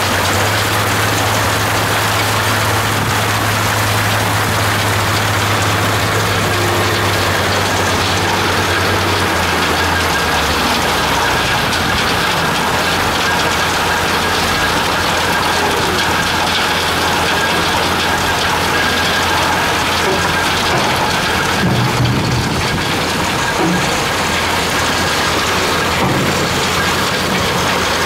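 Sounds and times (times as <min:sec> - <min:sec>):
engine hum: 0:00.0 - 0:28.0
gravel and water tumbling in drum: 0:00.0 - 0:28.0.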